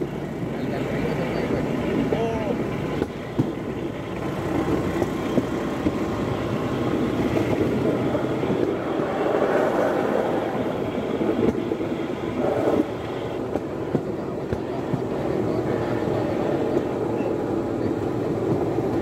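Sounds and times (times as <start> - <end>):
rail car rolling and rumbling: 0.0 - 19.0.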